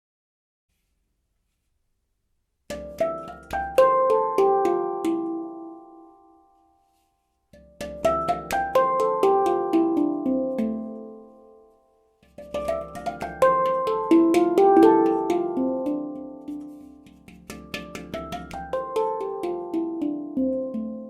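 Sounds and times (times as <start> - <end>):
handpan notes ringing: 2.7 - 6.6, 7.6 - 21.0.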